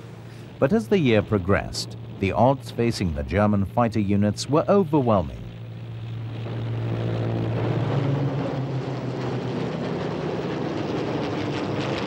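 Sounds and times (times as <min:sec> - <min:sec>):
propeller aircraft engine droning: 0:00.0 - 0:12.0.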